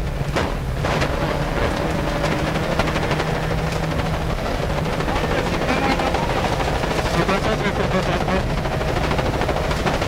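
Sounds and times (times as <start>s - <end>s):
car engine running hard: 0.0s - 10.0s
gravel and bodywork rattling: 0.0s - 10.0s.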